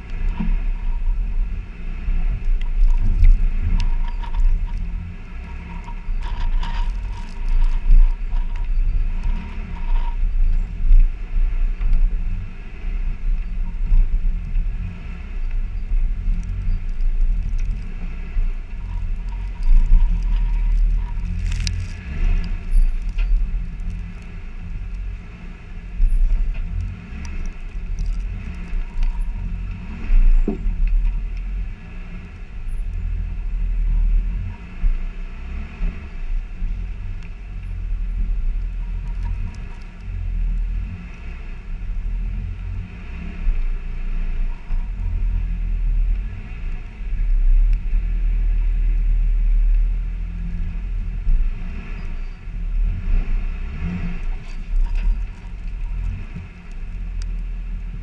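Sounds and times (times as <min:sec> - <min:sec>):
vehicle engine rumbling low: 0:00.0 - 0:58.0.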